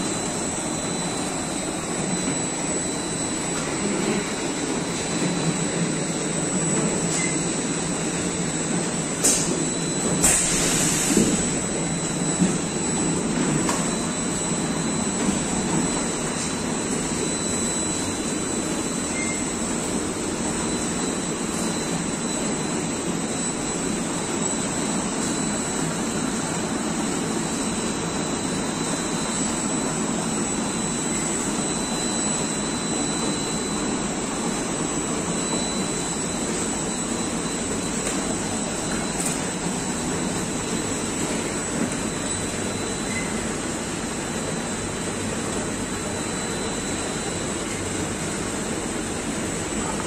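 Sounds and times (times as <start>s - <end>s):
filling machine humming and hissing: 0.0s - 50.0s
thin high whine: 0.0s - 50.0s.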